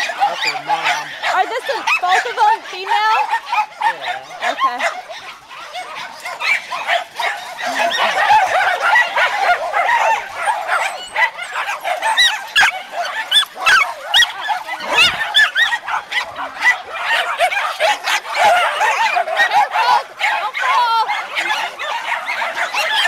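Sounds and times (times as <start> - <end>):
dogs barking and yapping: 0.0 - 23.0.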